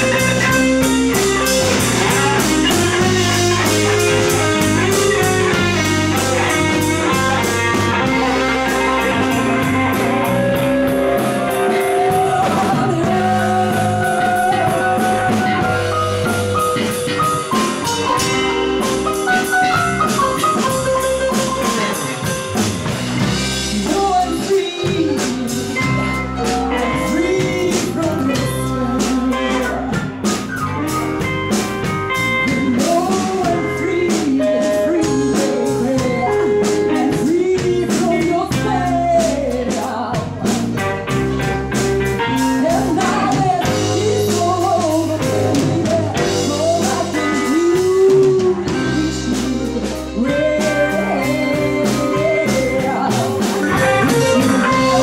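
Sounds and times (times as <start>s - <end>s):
woman singing: 0.0s - 22.4s, 23.5s - 30.1s, 32.4s - 40.8s, 42.2s - 55.0s
drum kit: 0.0s - 55.0s
electric guitar: 0.0s - 55.0s.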